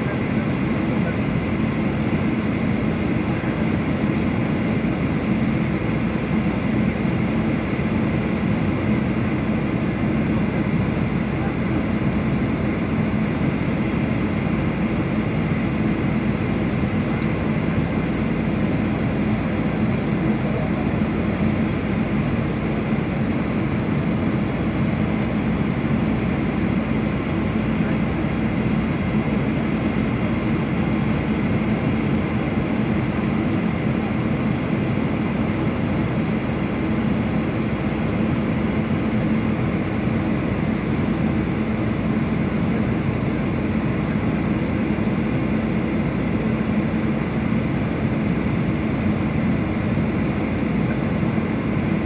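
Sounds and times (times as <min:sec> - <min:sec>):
constant low hum: 0:00.0 - 0:52.0
jet engine drone: 0:00.0 - 0:52.0.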